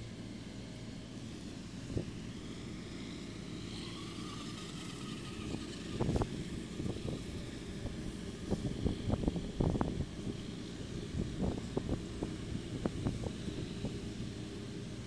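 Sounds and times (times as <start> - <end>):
street sweeper engine rumble: 0.0 - 15.0.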